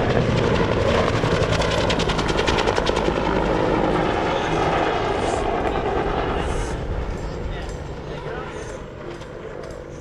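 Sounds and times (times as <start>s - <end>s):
helicopter turbine and rotor noise: 0.0s - 10.0s.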